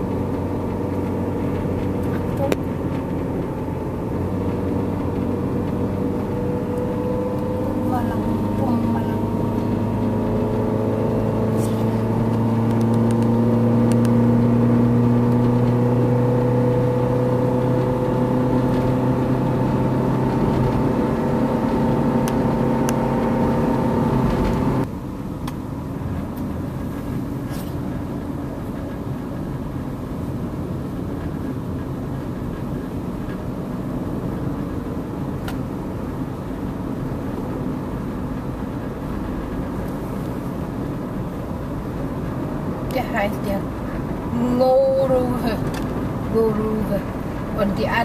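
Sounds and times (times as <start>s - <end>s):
car engine: 0.0s - 48.0s
tyre and road noise: 0.0s - 48.0s.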